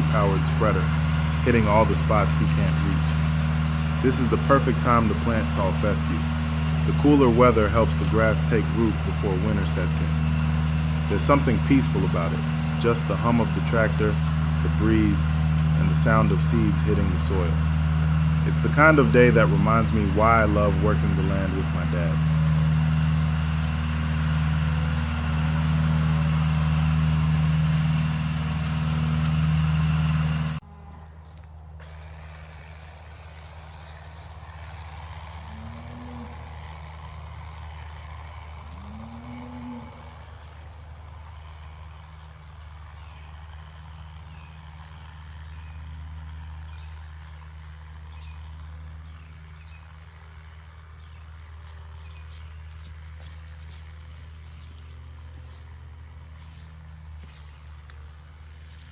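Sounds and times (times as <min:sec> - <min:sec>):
tractor engine humming: 0:00.0 - 0:58.9.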